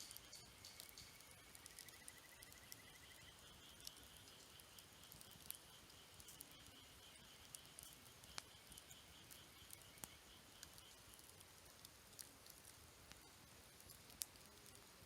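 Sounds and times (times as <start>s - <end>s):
campfire crackling: 0.0s - 15.0s
fire pops and snaps: 0.0s - 15.0s.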